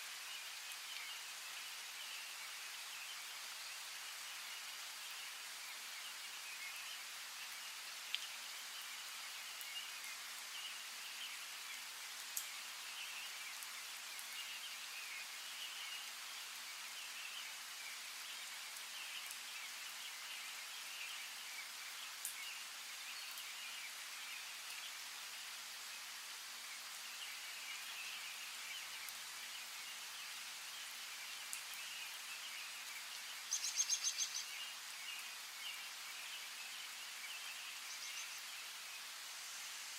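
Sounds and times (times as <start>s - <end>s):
faint birds chirping: 0.0s - 39.9s
running water hiss: 0.0s - 39.9s.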